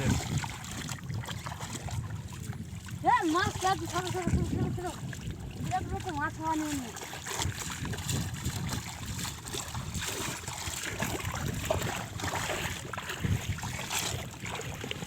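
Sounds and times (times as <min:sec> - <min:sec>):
shallow water sloshing: 0:00.0 - 0:15.0
wind on microphone: 0:00.0 - 0:15.0.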